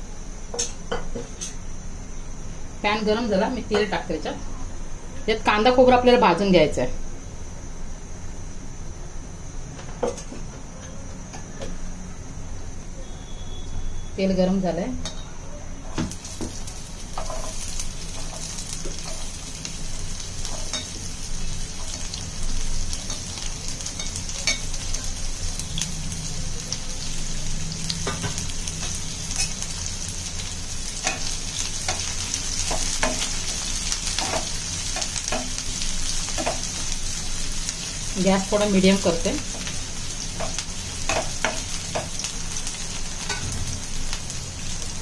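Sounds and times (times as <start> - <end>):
onion sizzling in oil: 0.0 - 9.7, 15.9 - 45.0.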